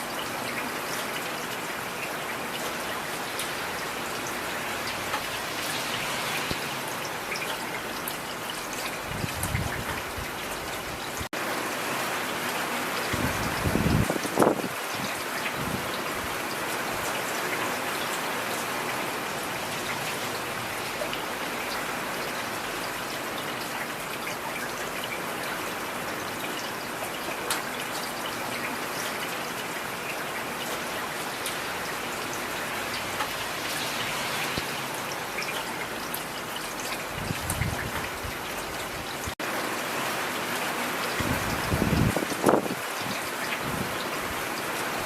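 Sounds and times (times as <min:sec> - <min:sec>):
heavy rain falling: 0:00.0 - 0:45.0.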